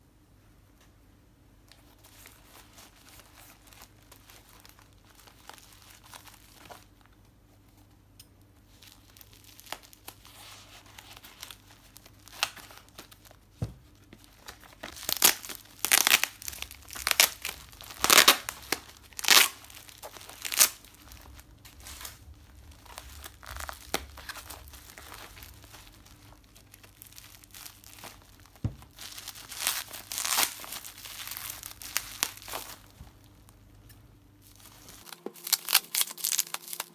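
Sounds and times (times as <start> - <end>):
plastic packaging crinkling: 1.8 - 7.1, 8.7 - 36.9.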